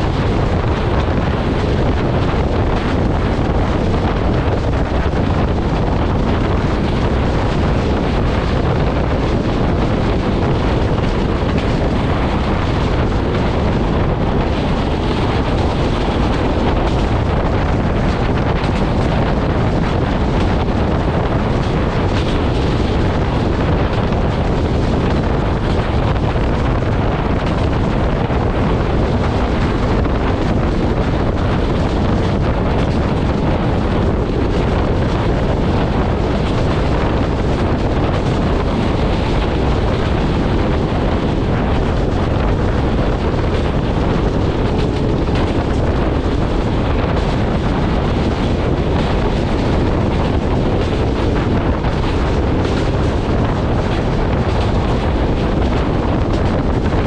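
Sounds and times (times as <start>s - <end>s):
train coach rumbling on rails: 0.0s - 57.0s
wind rushing on microphone: 0.0s - 57.0s.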